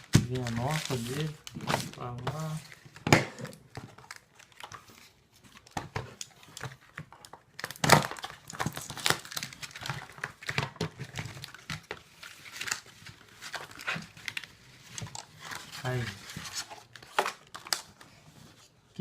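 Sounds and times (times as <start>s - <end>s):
packaging crinkling and rustling: 0.0s - 18.8s.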